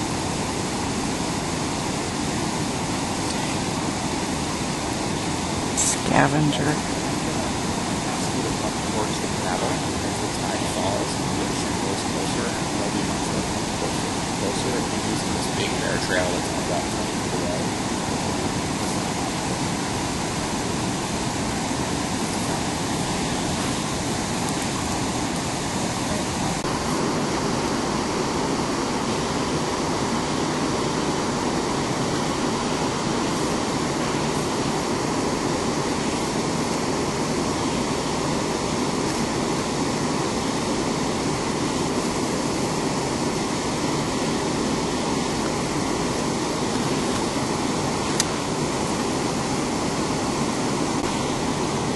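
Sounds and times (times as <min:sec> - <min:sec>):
creek water rushing over rocks: 0:00.0 - 0:51.9.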